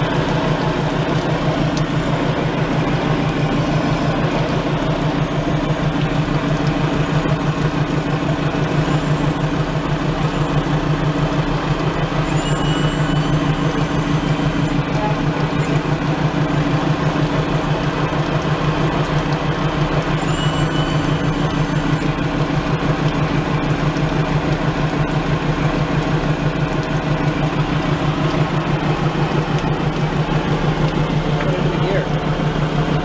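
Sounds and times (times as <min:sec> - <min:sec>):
cooling water splashing: 0:00.0 - 0:33.0
diesel boat engine running: 0:00.0 - 0:33.0.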